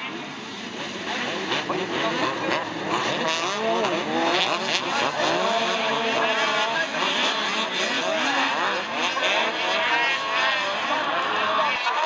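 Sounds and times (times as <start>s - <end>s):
snowmobile engines revving: 0.0s - 12.0s.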